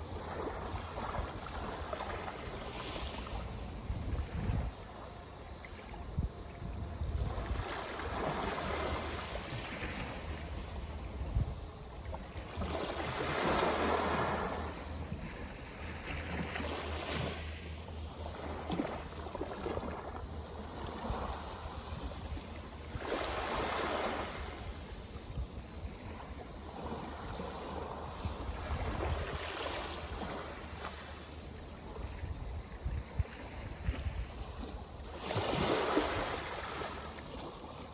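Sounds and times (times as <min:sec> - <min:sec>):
small sea waves breaking: 0:00.0 - 0:06.0, 0:07.2 - 0:25.2, 0:25.9 - 0:37.9.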